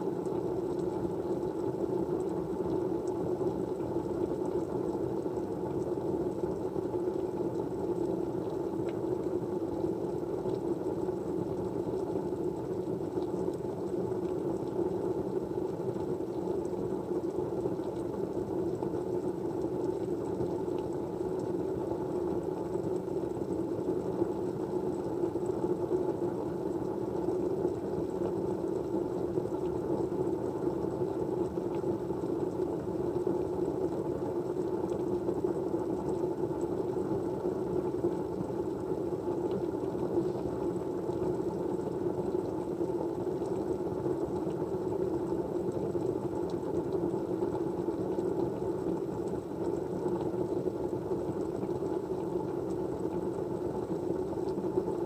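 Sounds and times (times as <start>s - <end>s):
low white noise: 0.0s - 55.0s.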